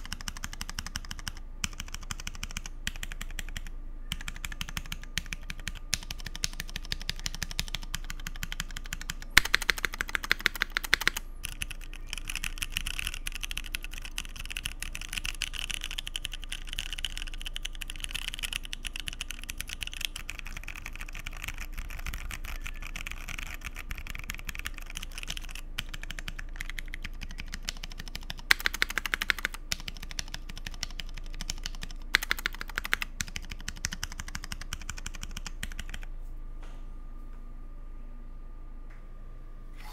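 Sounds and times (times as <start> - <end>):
mechanical keyboard typing: 0.0 - 36.0.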